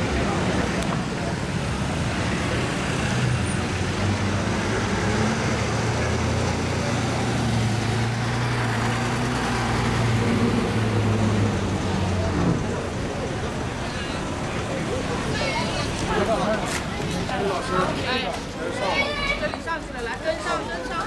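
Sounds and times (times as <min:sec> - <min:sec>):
bus diesel engine droning: 0:00.0 - 0:19.4
street traffic noise: 0:00.0 - 0:21.0.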